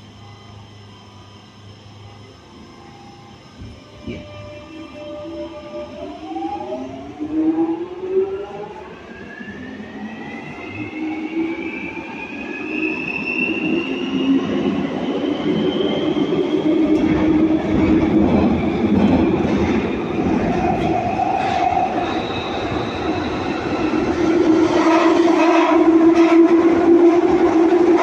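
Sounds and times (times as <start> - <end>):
wheels rumbling in tunnel: 0.0 - 28.0.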